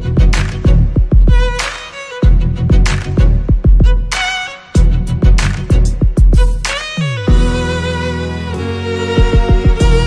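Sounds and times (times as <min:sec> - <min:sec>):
melody over heavy beat: 0:00.0 - 0:10.0.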